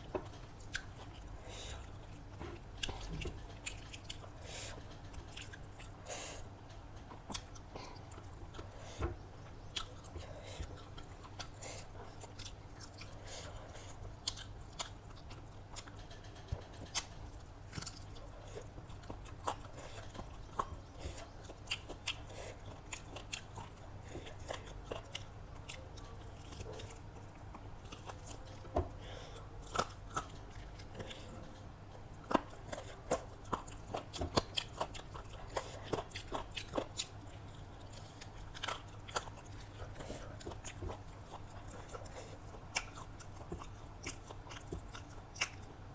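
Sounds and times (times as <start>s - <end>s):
biting and chewing food: 0.0s - 45.9s
faint low hum: 0.0s - 45.9s.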